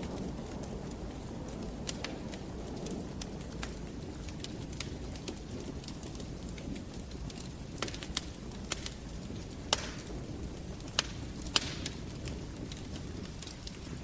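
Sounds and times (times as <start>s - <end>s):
fire crackling pops: 0.0s - 14.0s
low steady fire rumble: 0.0s - 14.0s.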